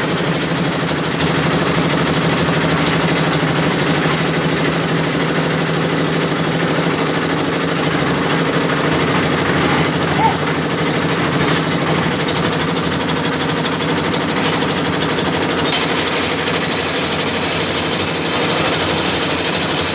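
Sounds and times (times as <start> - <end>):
machine engine running: 0.0 - 19.9.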